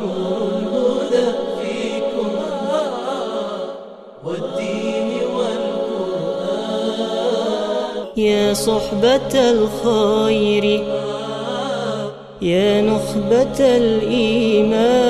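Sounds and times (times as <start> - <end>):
chanted vocal music: 0.0 - 15.0.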